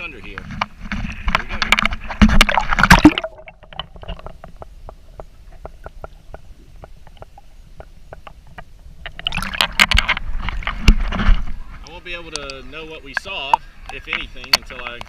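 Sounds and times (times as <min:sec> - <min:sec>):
faint underwater clicks: 0:00.3 - 0:15.0
muffled underwater rumble: 0:00.3 - 0:15.0
water splashing: 0:00.6 - 0:15.0.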